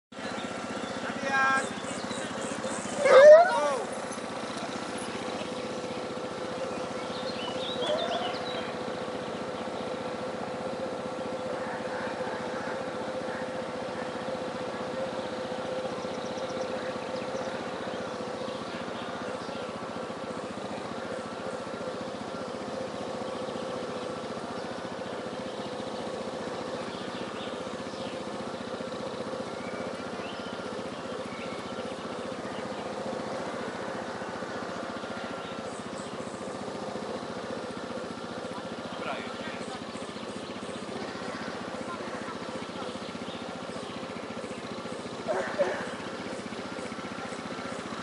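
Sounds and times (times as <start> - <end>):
birds chirping faintly: 0.1 - 48.0
small motor humming: 0.1 - 48.0.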